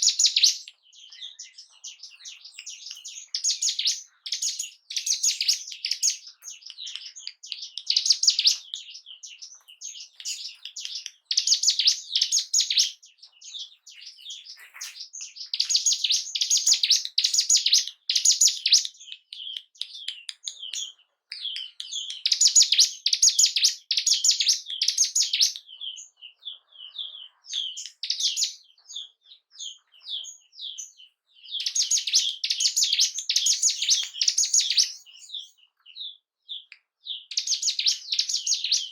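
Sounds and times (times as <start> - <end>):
bird singing rapid high chirps: 0.0 - 38.9.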